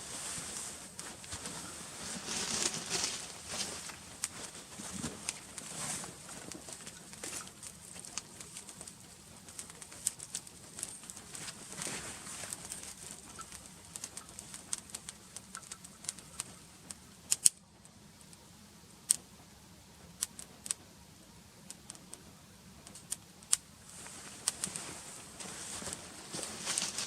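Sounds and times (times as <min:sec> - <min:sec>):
campfire crackling: 0:00.0 - 0:18.4, 0:22.8 - 0:27.0.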